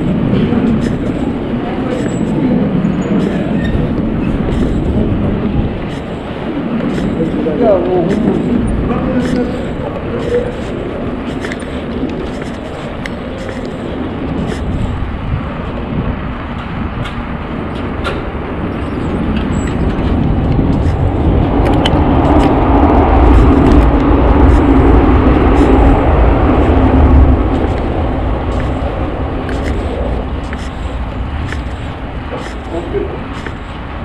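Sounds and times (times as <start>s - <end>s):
wind and road noise: 0.0s - 34.0s.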